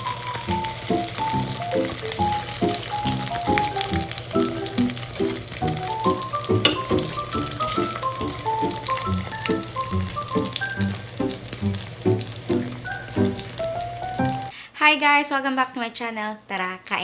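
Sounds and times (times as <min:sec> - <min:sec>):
background music: 0:00.0 - 0:14.5
food sizzling in hot oil: 0:00.0 - 0:14.5.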